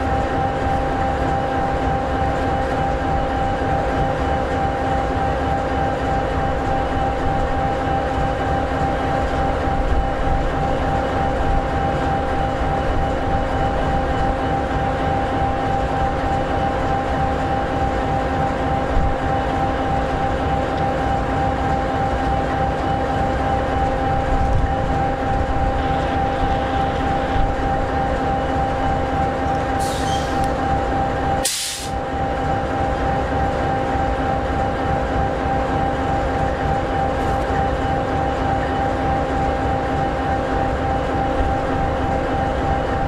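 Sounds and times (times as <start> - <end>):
diesel locomotive idling: 0.0 - 43.0.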